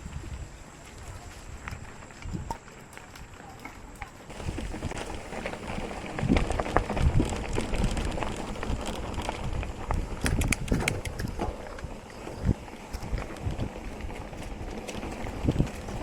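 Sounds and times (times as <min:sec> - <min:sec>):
wind on microphone: 0:00.0 - 0:02.6, 0:04.3 - 0:16.0
bike rattling clicks: 0:01.7 - 0:16.0.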